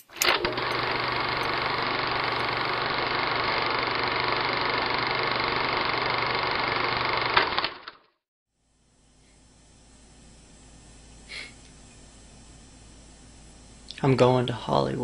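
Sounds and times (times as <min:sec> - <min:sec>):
light bulb electrical buzz: 0:00.0 - 0:07.6, 0:08.6 - 0:14.1.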